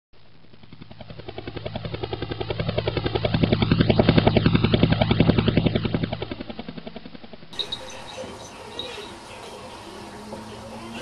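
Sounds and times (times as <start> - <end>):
toy helicopter motor hum and rotor chop: 0.6 - 11.0.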